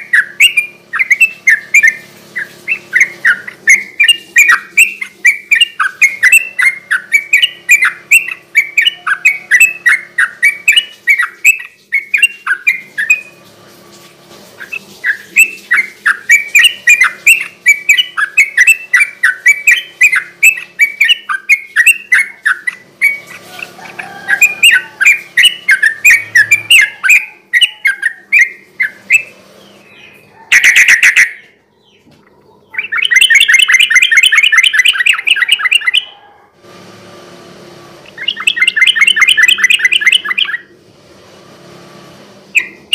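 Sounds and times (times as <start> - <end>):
bird chirping and trilling: 0.0 - 13.5, 14.6 - 36.4, 38.1 - 40.7, 42.5 - 42.9.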